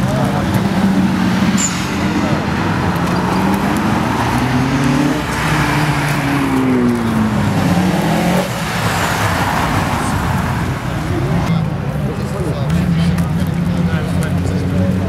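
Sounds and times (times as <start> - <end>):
car engines accelerating past: 0.0 - 15.0.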